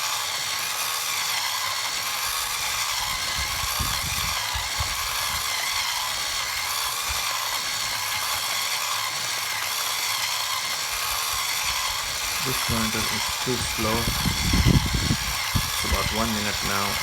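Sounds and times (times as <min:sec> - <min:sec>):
coffee grinder grinding beans: 0:00.0 - 0:17.0.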